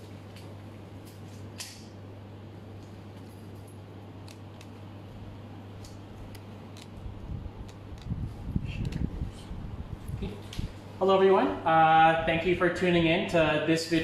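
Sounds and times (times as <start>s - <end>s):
low hum: 0.0s - 13.7s.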